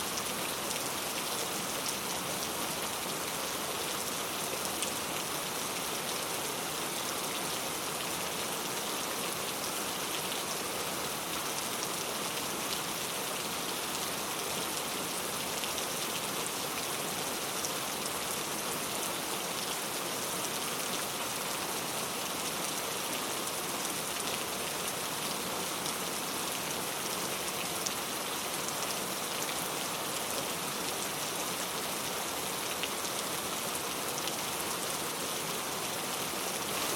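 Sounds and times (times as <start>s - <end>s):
steady rain hiss: 0.0s - 36.9s.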